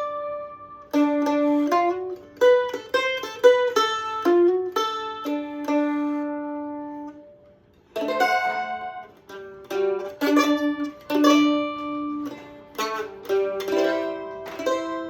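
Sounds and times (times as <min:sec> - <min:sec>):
mandolin picked notes: 0:00.0 - 0:15.0.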